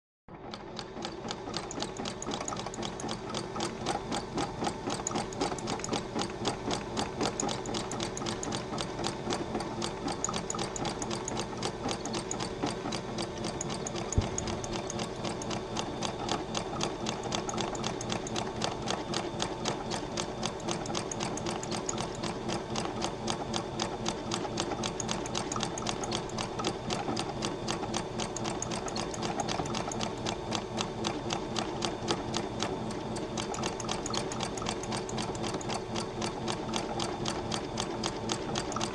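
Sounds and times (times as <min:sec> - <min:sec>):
sewing machine stitching: 0:00.3 - 0:38.9.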